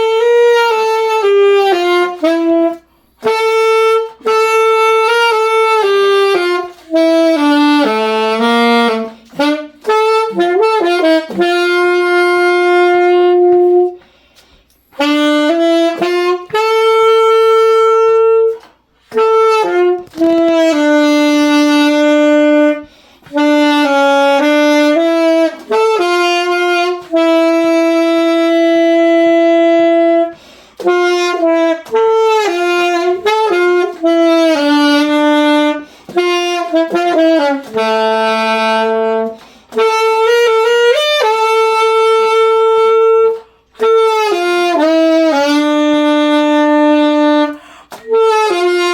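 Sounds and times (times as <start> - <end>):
saxophone slow melody: 0.0 - 48.9.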